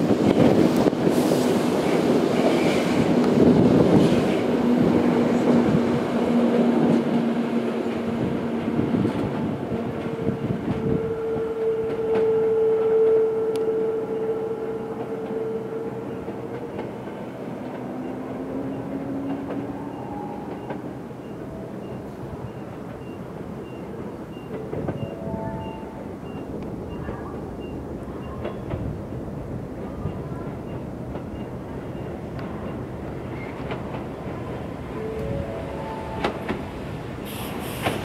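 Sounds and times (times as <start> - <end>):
distant train whine: 0.0 - 38.0
train rumble and clatter: 0.0 - 38.0.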